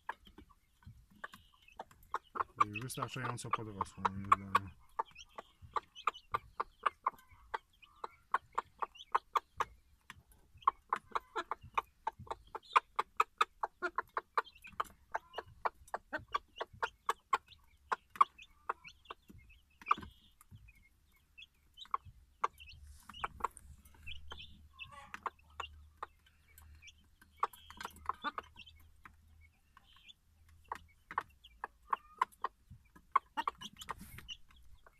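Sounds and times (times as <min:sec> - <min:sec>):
hen clucking rapidly: 0:00.0 - 0:34.9.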